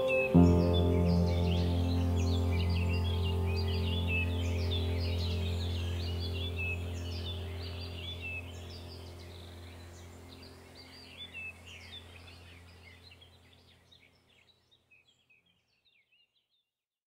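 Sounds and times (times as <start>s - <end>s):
low steady hum: 0.0s - 13.9s
small birds chirping: 0.0s - 16.7s.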